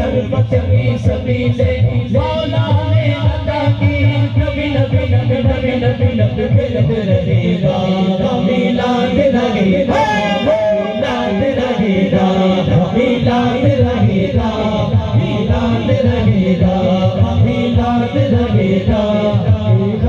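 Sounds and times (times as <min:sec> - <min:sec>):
men chanting over loudspeakers: 0:00.0 - 0:20.0.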